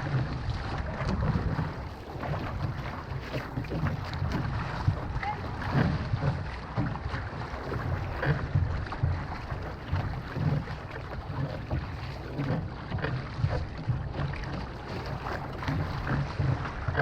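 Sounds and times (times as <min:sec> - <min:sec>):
paddles splashing in water: 0:00.0 - 0:17.0
wind buffeting microphone: 0:00.0 - 0:17.0.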